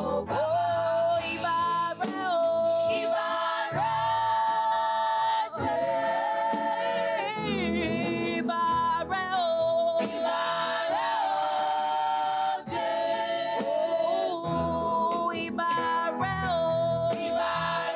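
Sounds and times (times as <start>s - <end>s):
women's choir singing gospel: 0.0s - 17.9s.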